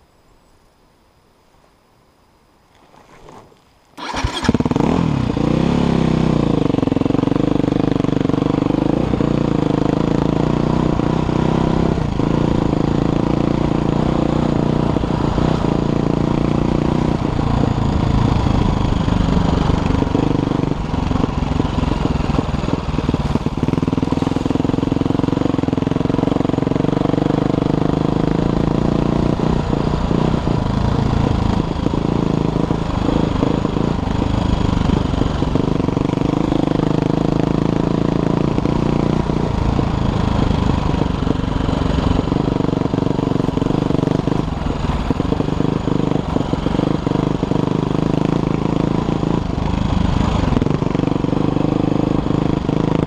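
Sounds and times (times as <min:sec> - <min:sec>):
dirt bike engine: 0:02.9 - 0:53.0.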